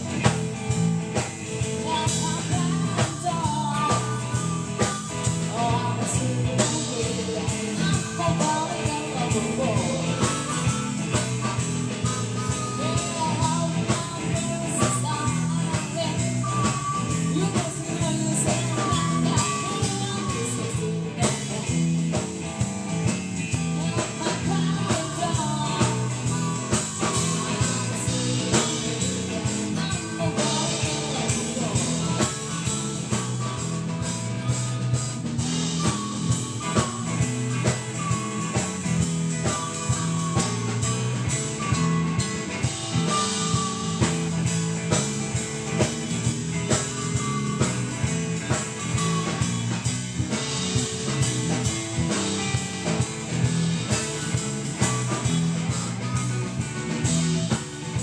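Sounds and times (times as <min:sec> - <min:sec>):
bass guitar: 0:00.0 - 0:58.0
drum kit beat: 0:00.0 - 0:58.0
electric guitars: 0:00.0 - 0:58.0.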